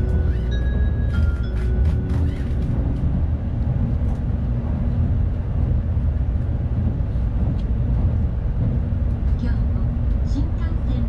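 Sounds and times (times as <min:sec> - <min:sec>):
train rumble inside passenger car: 0:00.0 - 0:11.0.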